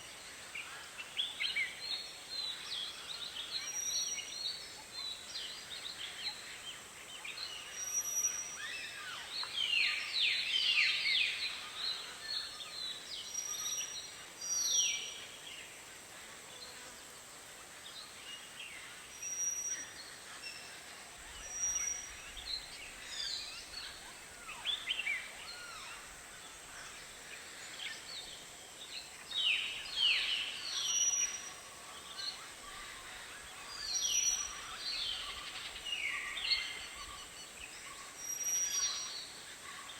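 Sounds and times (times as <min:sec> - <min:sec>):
faint high hiss: 0:00.0 - 0:39.9.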